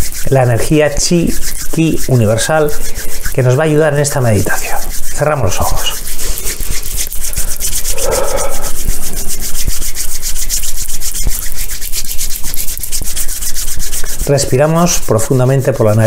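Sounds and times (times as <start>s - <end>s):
palms rubbing together: 0.0s - 16.0s.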